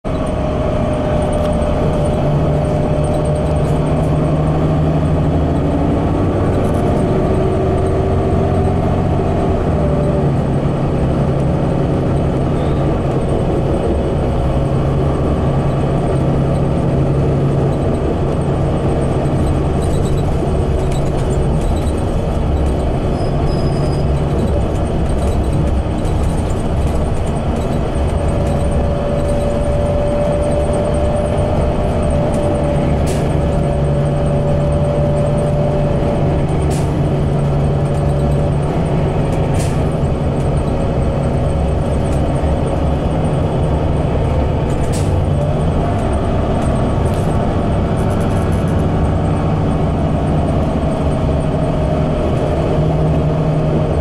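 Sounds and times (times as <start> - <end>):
bus engine hum: 0.0 - 54.0
road rumble: 0.0 - 54.0.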